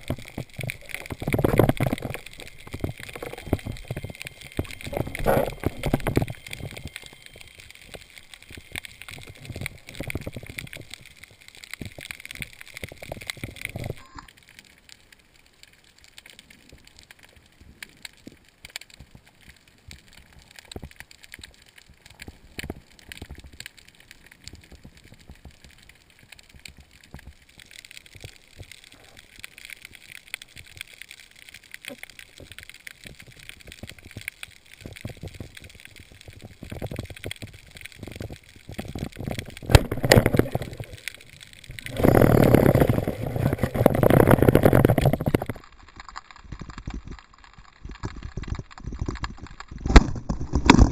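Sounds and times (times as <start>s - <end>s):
faint underwater clicks and crackles: 0.0s - 50.9s.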